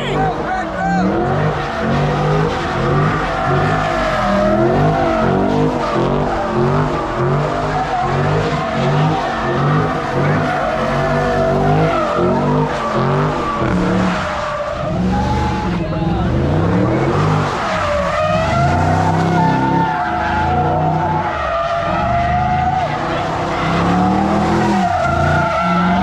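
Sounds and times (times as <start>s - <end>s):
car engine revving: 0.0s - 26.0s
tire squealing: 0.0s - 26.0s.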